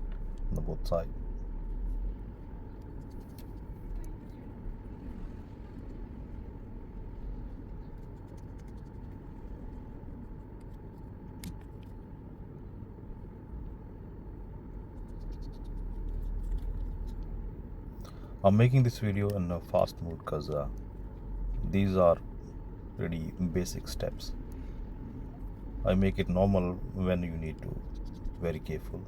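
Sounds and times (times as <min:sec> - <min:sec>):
low rumble and hum: 0:00.0 - 0:29.0.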